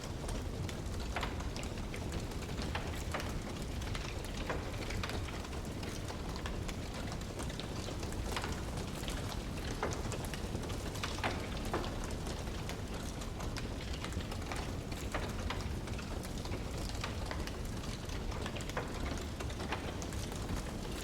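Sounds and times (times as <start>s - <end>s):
low fire rumble: 0.0s - 21.0s
wood fire crackling: 0.0s - 21.0s.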